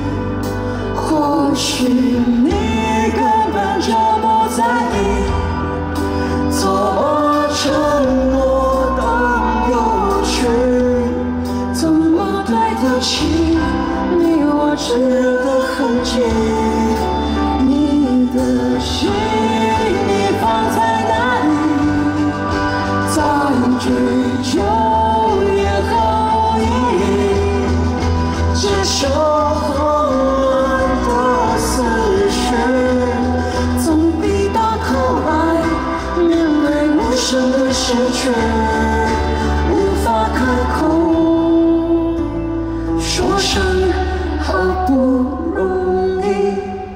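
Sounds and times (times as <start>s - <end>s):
band playing slow pop song: 0.0s - 46.9s
deep bass: 0.0s - 46.9s.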